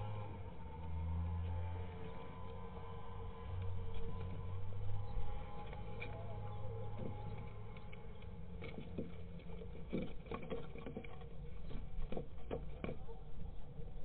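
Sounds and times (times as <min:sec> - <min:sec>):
claws scrabbling on wood: 0:00.7 - 0:14.0.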